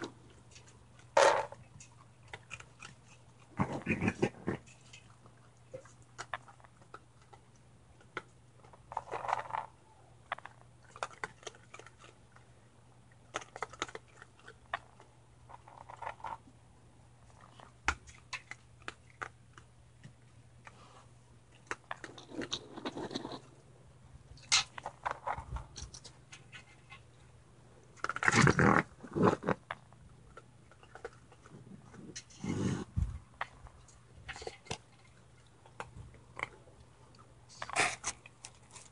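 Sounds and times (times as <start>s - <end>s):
raccoons crunching and chewing: 0.0s - 38.9s.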